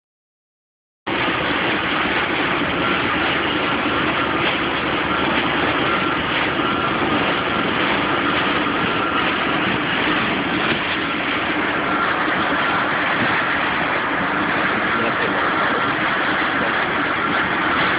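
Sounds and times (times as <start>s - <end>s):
wind on microphone: 1.1s - 17.9s.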